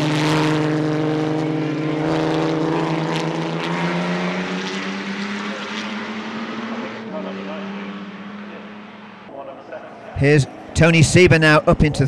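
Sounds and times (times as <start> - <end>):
racing car engines passing: 0.0 - 12.0.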